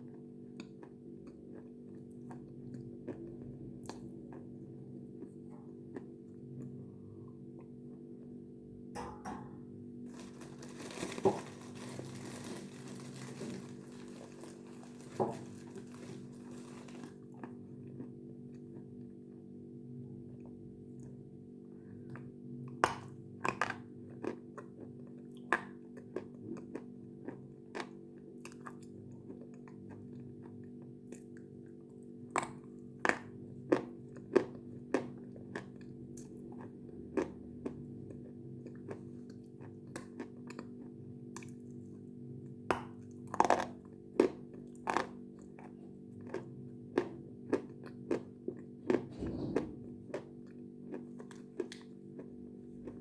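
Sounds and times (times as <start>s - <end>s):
crunchy food chewing: 0.0s - 8.4s, 10.1s - 19.4s, 22.1s - 53.0s.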